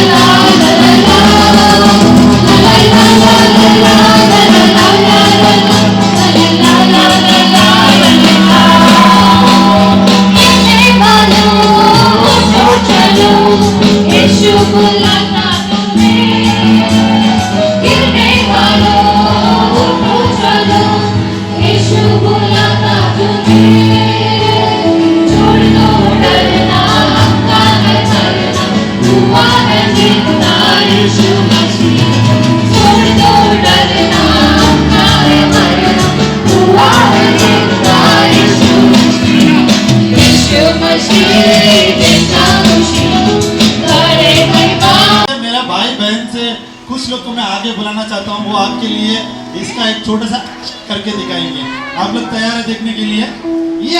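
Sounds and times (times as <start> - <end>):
choir singing gospel: 0.0 - 45.3
steady percussive beat: 0.0 - 45.3
sustained bass and chords: 0.0 - 45.3.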